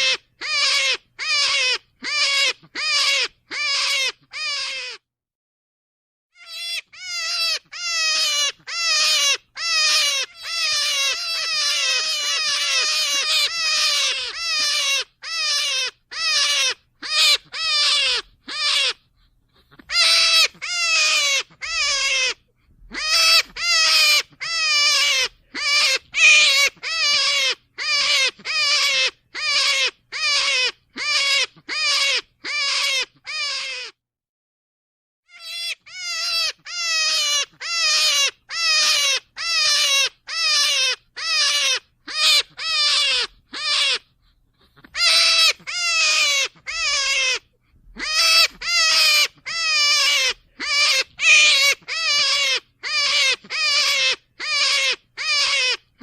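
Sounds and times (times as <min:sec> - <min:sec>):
rabbit calls: 0:00.0 - 0:05.0, 0:06.3 - 0:34.0, 0:35.3 - 0:56.0.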